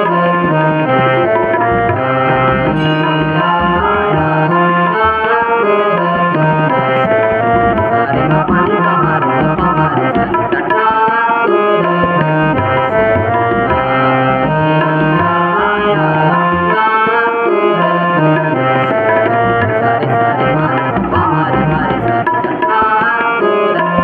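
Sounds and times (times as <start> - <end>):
harmonium melody: 0.0 - 24.0
tabla playing a rhythm: 0.0 - 24.0.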